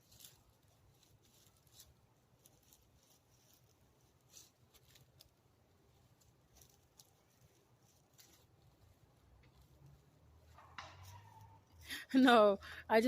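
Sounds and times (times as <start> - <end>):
faint light ticks and rustles: 0.0 - 11.7.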